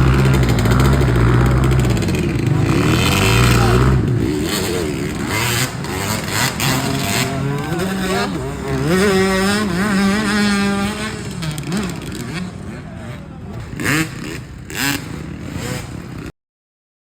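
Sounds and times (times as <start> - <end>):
dirt bike engines revving: 0.0 - 16.3.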